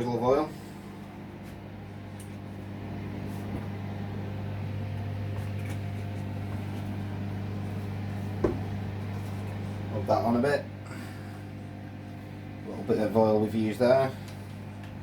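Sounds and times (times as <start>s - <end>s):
microwave oven hum: 0.0s - 15.0s.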